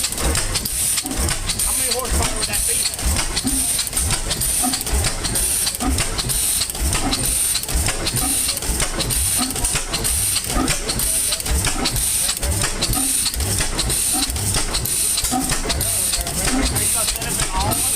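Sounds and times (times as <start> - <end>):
old engine running: 0.0 - 17.9.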